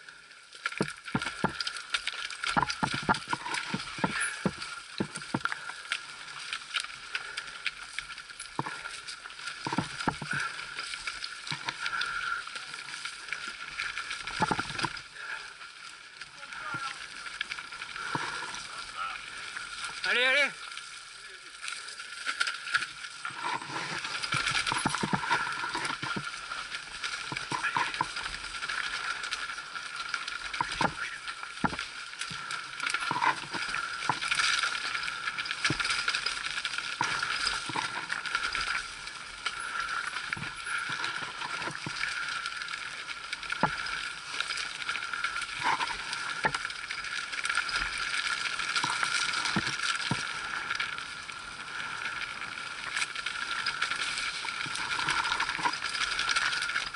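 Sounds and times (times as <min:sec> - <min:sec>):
bike rattling over bumps: 0:00.6 - 0:15.6, 0:16.3 - 0:21.0, 0:22.3 - 0:56.9.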